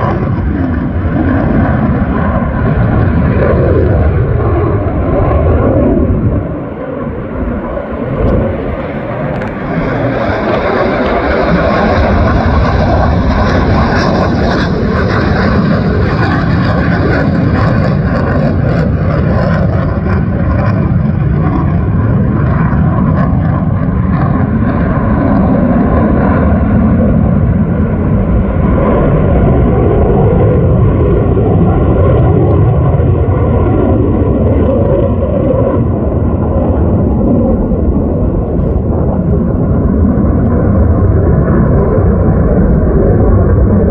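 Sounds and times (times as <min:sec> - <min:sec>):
fighter jet engines flying past: 0:00.0 - 0:43.9.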